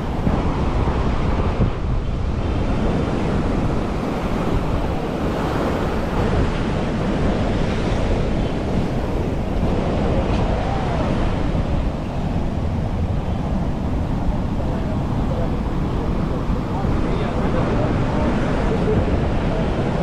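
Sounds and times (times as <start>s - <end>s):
ocean surf washing on beach: 0.0s - 20.0s
wind buffeting microphone: 0.0s - 20.0s.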